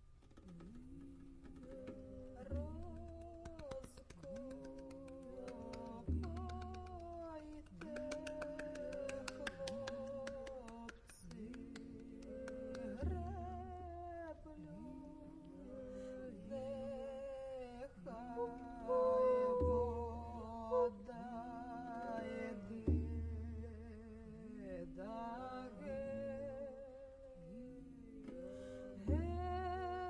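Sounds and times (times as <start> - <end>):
voices singing and humming: 0.4 - 30.0.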